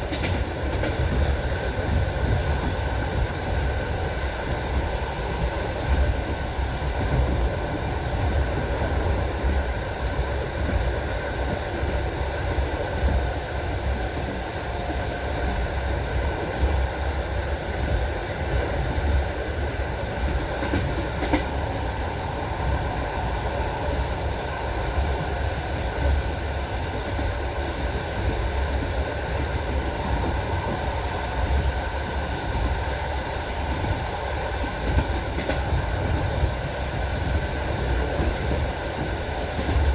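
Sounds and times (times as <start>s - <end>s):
moving train rumble: 0.0s - 39.9s
train wheels clickety-clack: 0.0s - 39.9s.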